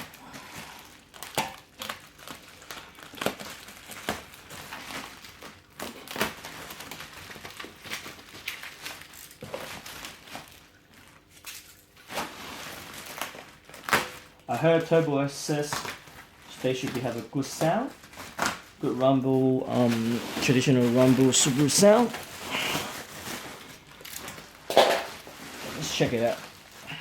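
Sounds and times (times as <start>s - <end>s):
packing foam crinkling: 0.0s - 27.0s.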